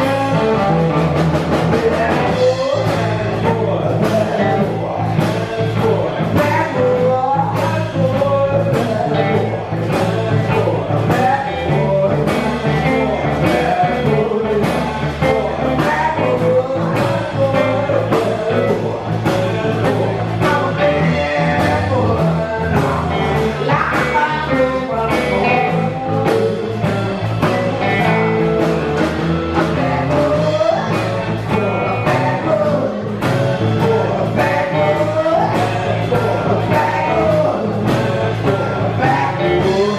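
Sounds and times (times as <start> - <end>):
bass guitar: 0.0 - 39.9
drums: 0.0 - 39.9
electric guitar: 0.0 - 39.9
person singing: 0.0 - 39.9.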